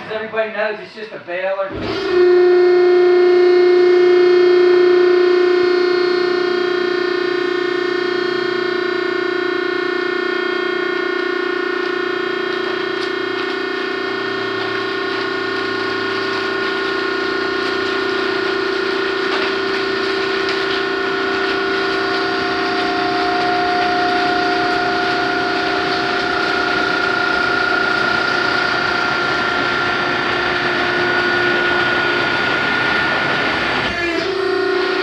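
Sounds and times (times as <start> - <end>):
baler motor whining: 1.7 - 35.0.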